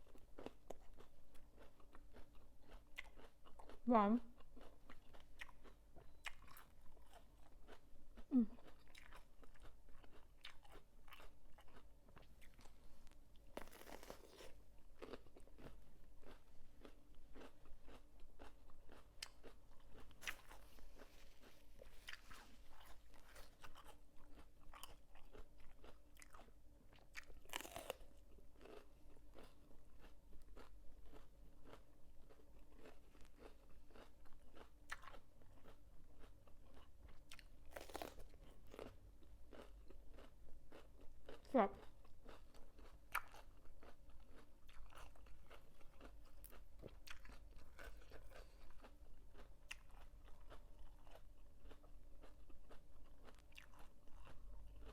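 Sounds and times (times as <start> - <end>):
crunchy chewing: 0.0 - 3.8, 4.4 - 54.9.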